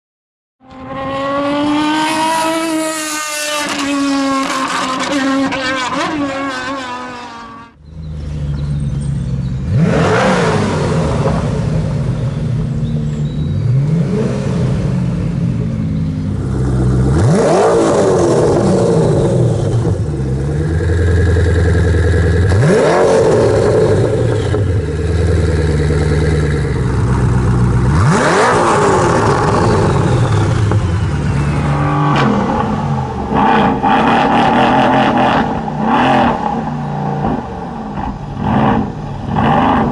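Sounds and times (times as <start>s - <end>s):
high-pitched engine revving: 0.6s - 12.1s, 16.4s - 37.4s
deep engine idling and revving: 0.6s - 39.9s.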